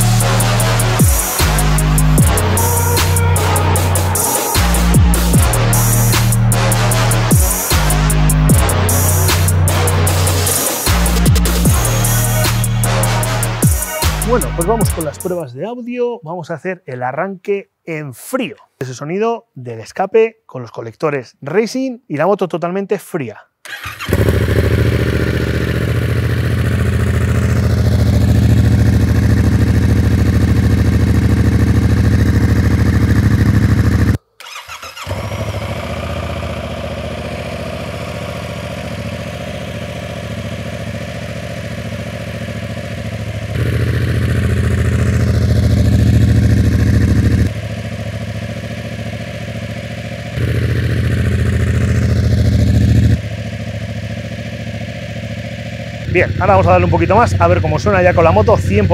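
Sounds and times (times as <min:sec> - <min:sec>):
motorcycle engine idling: 0:00.0 - 0:15.4, 0:23.8 - 0:58.9.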